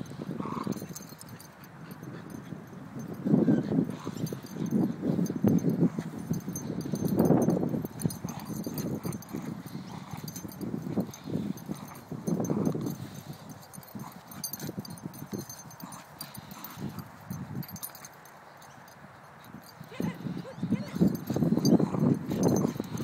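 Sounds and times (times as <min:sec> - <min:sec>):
dogs play-growling: 0:00.0 - 0:18.2, 0:19.5 - 0:23.0.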